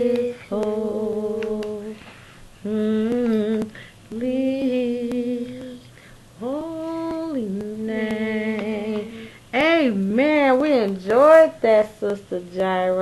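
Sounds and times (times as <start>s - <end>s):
woman singing gospel: 0.0s - 13.0s.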